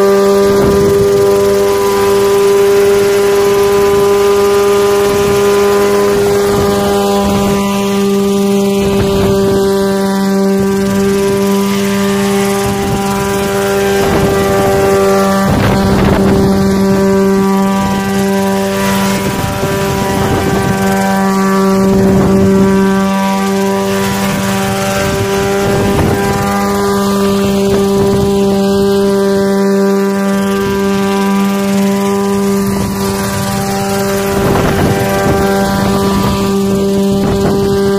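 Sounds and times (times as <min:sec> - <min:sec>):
rushing air: 0:00.0 - 0:29.4, 0:30.4 - 0:37.9
helicopter engine and rotor drone: 0:00.0 - 0:37.9.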